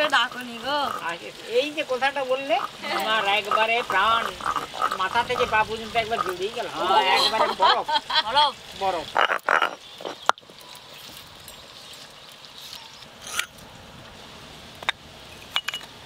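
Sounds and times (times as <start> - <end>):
frogs croaking: 0.0 - 13.4.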